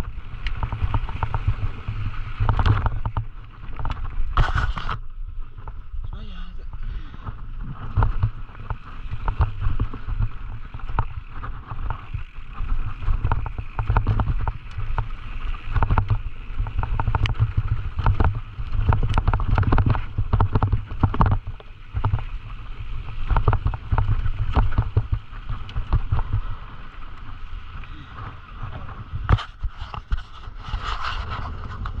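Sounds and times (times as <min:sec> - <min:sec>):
bike knocking and rattling: 0:00.0 - 0:32.0
wind buffeting microphone: 0:00.0 - 0:32.0.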